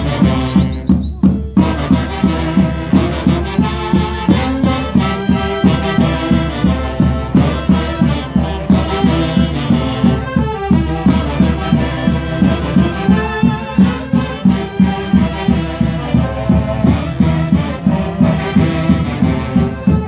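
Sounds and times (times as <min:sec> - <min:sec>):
folk orchestra with saxophones: 0:00.0 - 0:20.0.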